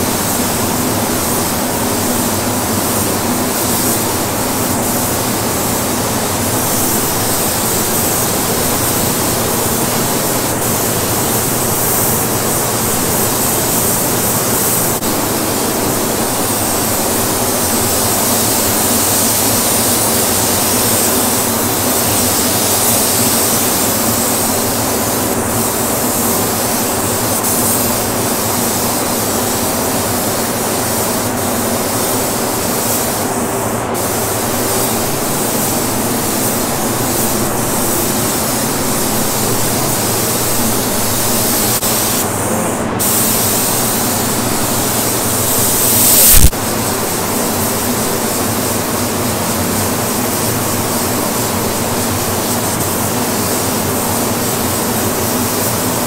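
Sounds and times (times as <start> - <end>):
booth air flow rushing: 0.0 - 56.0
spray gun air hissing: 0.0 - 56.0.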